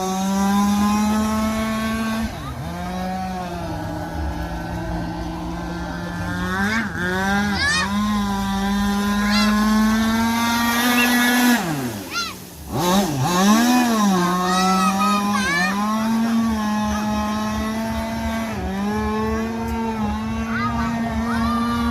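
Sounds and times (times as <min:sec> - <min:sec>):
model boat engine revving: 0:00.0 - 0:21.9.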